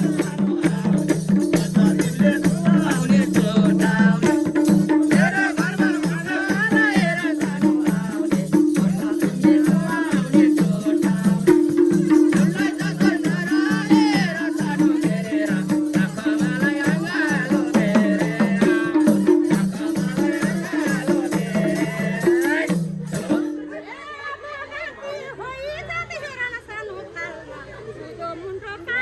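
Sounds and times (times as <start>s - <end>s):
shaker rattle: 0.0s - 23.5s
hand percussion beating: 0.0s - 23.6s.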